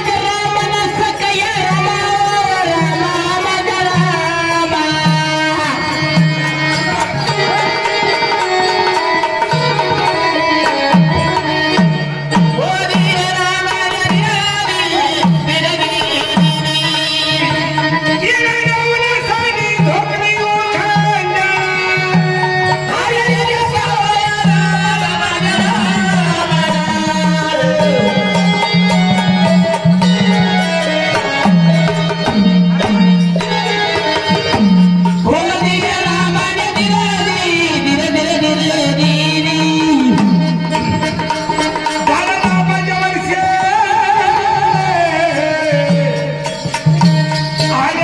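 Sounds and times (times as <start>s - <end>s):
sustained instrumental melody: 0.0s - 48.0s.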